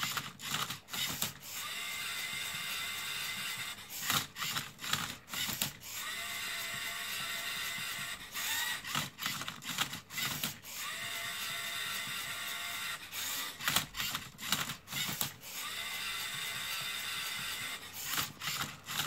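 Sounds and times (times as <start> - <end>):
plastic gears clicking and rattling: 0.0 - 19.0
servo motors whirring: 0.0 - 19.0.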